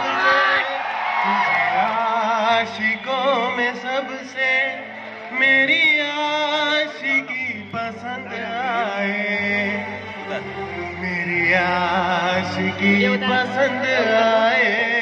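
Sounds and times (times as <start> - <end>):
man singing through a microphone: 0.0 - 15.0.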